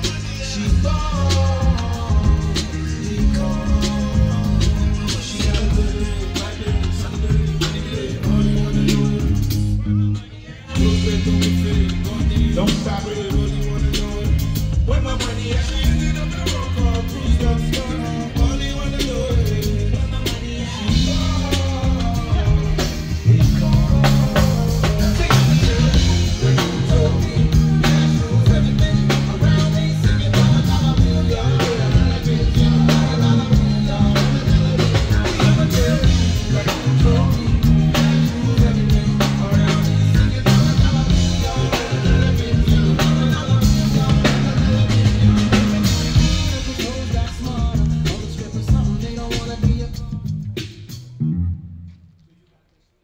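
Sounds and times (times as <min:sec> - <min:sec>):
person singing into a microphone: 0:00.0 - 0:50.4
drum kit: 0:00.0 - 0:51.2
bass guitar: 0:00.0 - 0:52.0.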